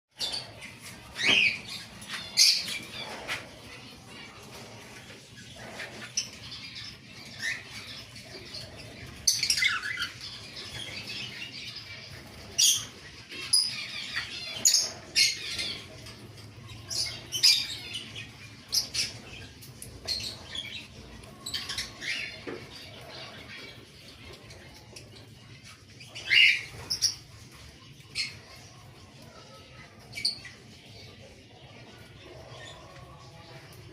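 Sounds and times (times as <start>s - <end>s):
bird chicks peeping: 0.1s - 33.9s.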